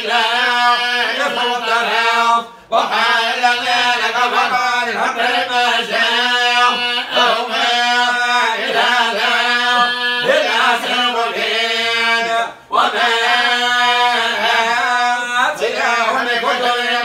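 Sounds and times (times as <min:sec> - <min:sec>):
man chanting religious verses: 0:00.0 - 0:17.0.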